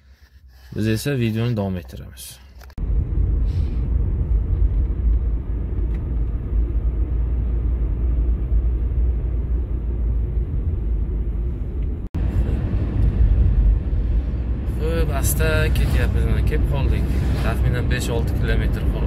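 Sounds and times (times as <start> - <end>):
car driving interior rumble: 2.7 - 19.0.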